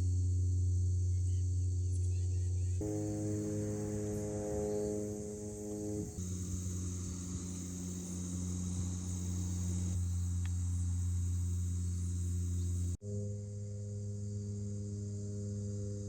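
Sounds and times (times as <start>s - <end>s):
crickets chirping: 0.0s - 13.0s
ambient background music drone: 0.2s - 16.0s.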